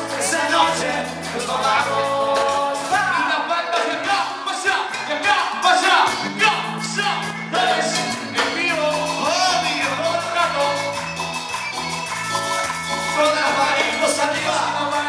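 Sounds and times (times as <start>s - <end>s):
people singing: 0.0s - 10.9s, 13.2s - 15.0s
electric bass: 0.0s - 15.0s
keyboard: 0.0s - 15.0s
percussion: 0.0s - 15.0s.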